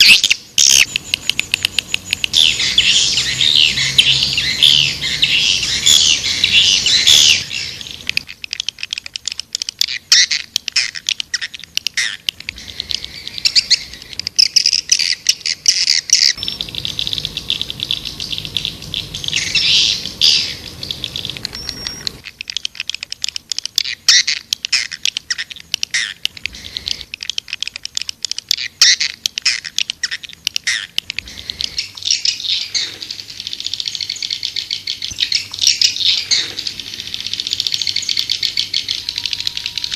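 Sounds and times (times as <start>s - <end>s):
rapid sharp clicks: 0.0s - 2.5s, 7.9s - 39.9s
swiftlets twittering chirps: 0.0s - 39.9s.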